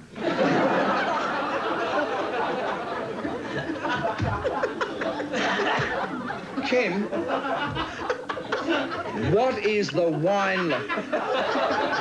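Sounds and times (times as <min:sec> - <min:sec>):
group of people laughing: 0:00.1 - 0:12.0.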